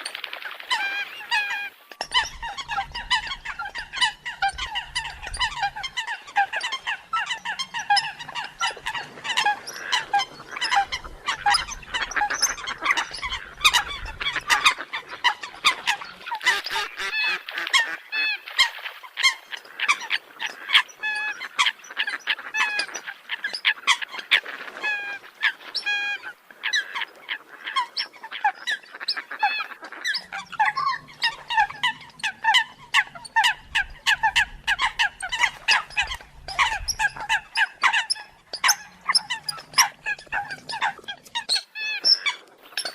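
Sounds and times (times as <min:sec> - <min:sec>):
coots calling: 0:00.0 - 0:42.9.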